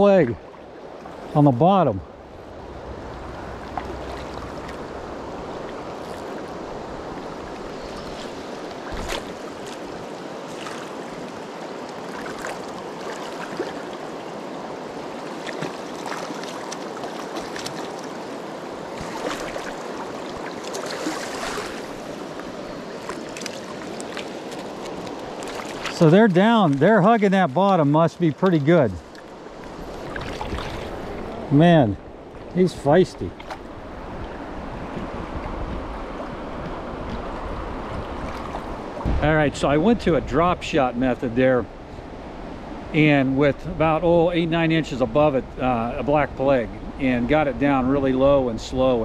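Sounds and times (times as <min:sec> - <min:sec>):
river current rushing: 0:00.0 - 0:45.8.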